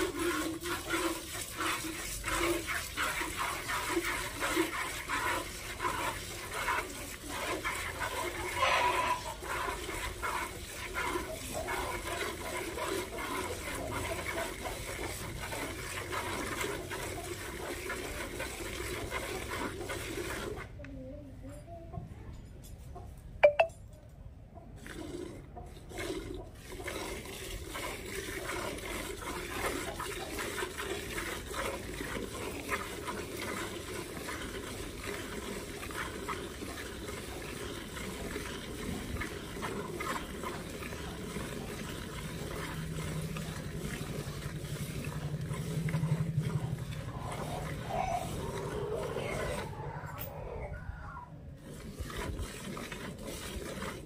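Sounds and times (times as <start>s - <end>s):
milk squirting into bucket: 0.0s - 20.8s, 24.8s - 49.7s, 51.6s - 54.0s.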